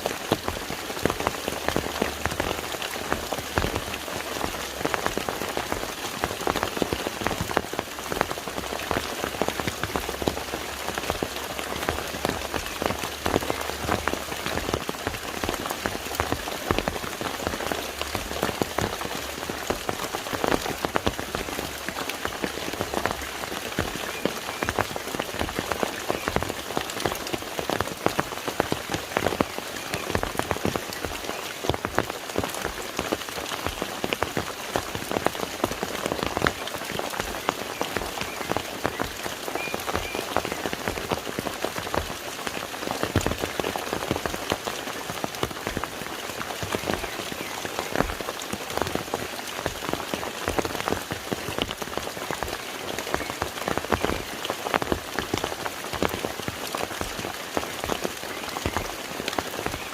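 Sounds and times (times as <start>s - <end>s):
rain falling on a lake: 0.0s - 59.9s.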